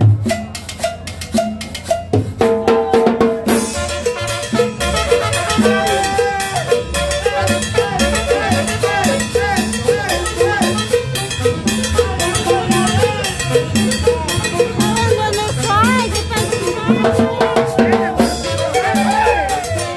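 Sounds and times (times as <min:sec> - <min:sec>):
tropical dance band playing: 0:00.0 - 0:19.9.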